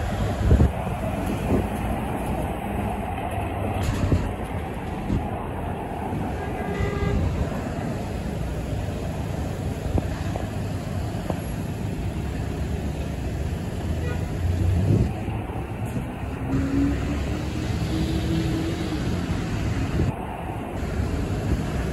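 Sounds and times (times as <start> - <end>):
passing traffic rumble: 0.0 - 21.9.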